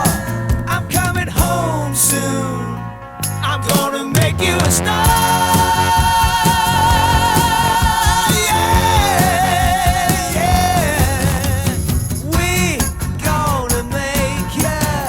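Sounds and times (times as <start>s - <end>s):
band with drums and bass: 0.0s - 2.3s, 3.2s - 15.0s
person singing with vibrato: 0.0s - 15.0s.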